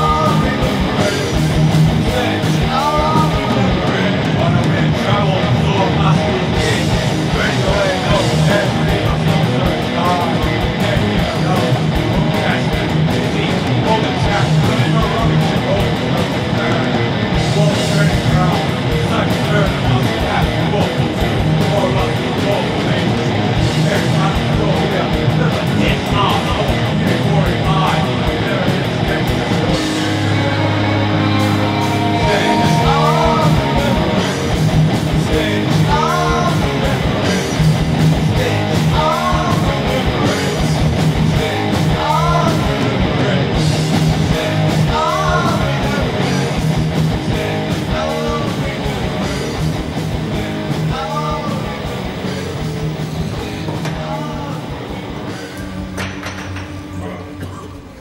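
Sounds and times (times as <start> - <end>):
fast dense drumming: 0.0 - 55.8
guitars: 0.0 - 58.0
heavy rock music: 0.0 - 58.0.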